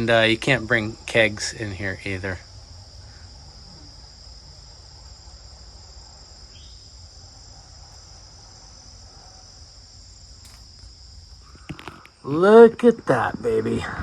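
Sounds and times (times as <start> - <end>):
faint low rumble: 0.0 - 14.0
shrill insect chorus: 0.0 - 14.0.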